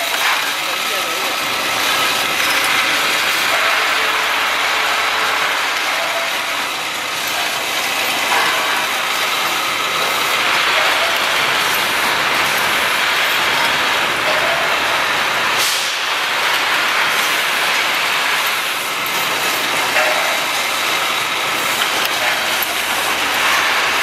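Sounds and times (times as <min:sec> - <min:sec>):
machine rattling plastic parts: 0:00.0 - 0:24.0.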